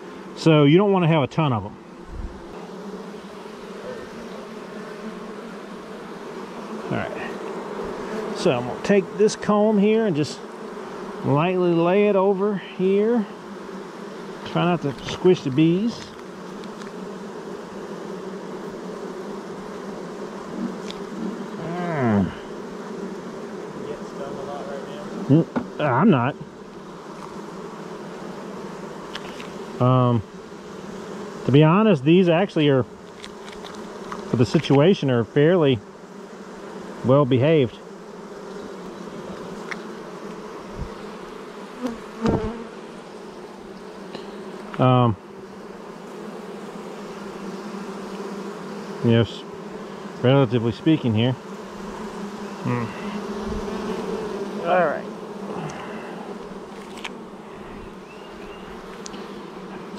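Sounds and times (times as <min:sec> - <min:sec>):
honeybees buzzing: 0:00.0 - 0:59.9
loud bee buzz sweeping down: 0:00.0 - 0:59.9.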